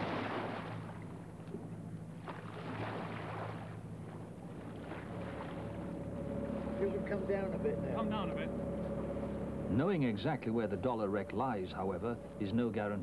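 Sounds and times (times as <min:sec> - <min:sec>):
sea water rushing: 0:00.0 - 0:01.3, 0:02.2 - 0:13.0
boat engine humming: 0:00.0 - 0:13.0.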